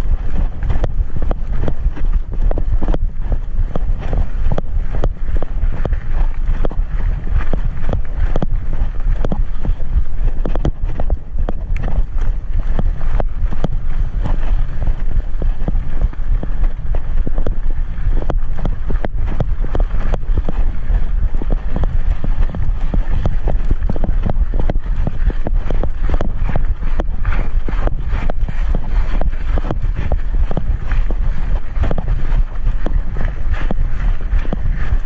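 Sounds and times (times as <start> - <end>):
bike clicks and rattles: 0.0 - 35.0
wind rumble on microphone: 0.0 - 35.0.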